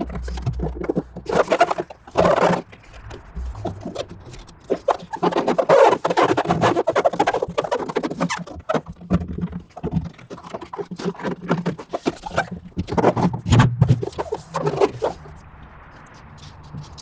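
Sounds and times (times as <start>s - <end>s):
hand roller crackling and rubbing: 0.0s - 15.3s.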